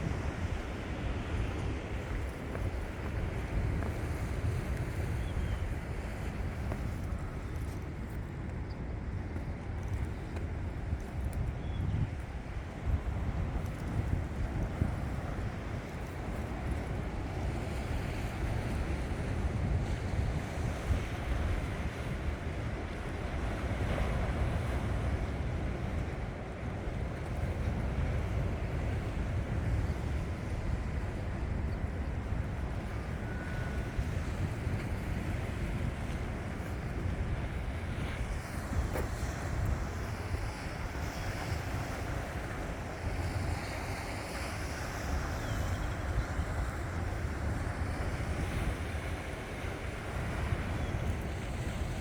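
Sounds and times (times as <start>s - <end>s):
sea waves on shore: 0.0s - 52.0s
wind buffeting microphone: 0.0s - 52.0s.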